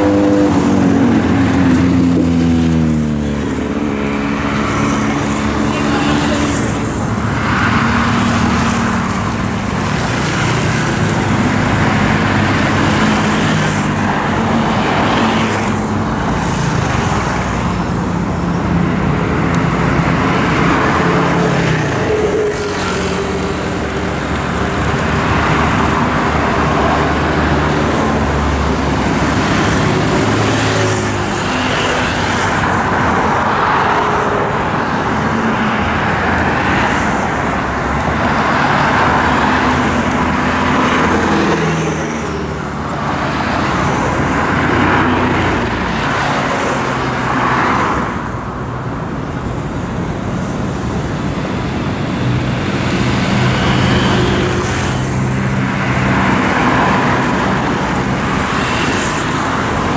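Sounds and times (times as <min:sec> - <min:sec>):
vehicles passing close by: 0:00.0 - 0:59.9.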